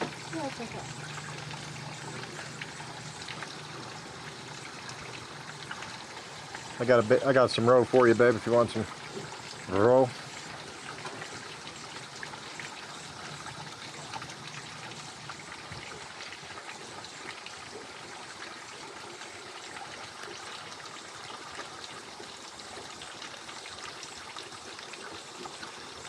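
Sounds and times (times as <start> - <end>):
water running: 0.0 - 26.0.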